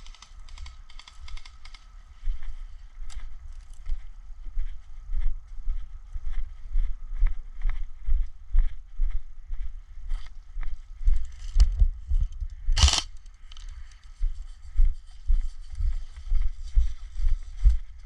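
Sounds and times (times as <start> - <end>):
footsteps outdoors: 0.0 - 18.0.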